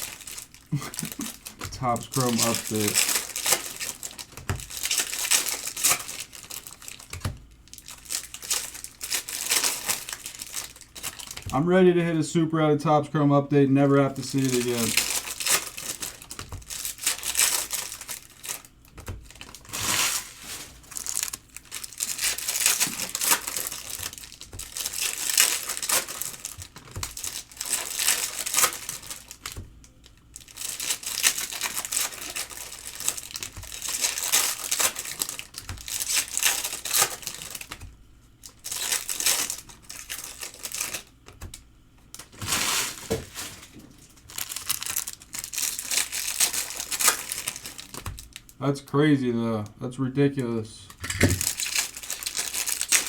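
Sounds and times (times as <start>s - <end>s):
card pack wrappers crinkling and tearing: 0.0s - 12.4s, 13.8s - 48.6s, 50.4s - 53.0s.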